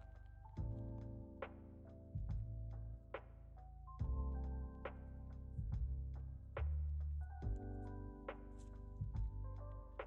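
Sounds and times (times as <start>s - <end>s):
background music with chords and bass: 0.0s - 10.0s.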